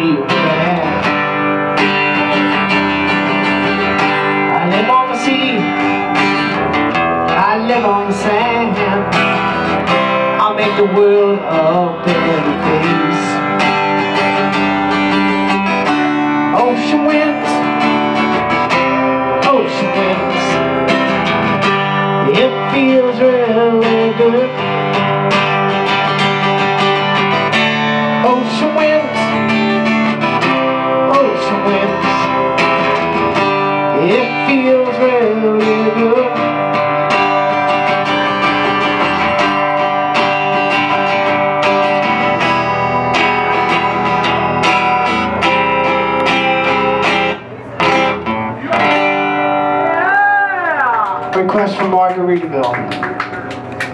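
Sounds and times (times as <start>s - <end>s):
strummed acoustic guitar: 0.0s - 50.1s
bending guitar melody: 0.0s - 53.9s.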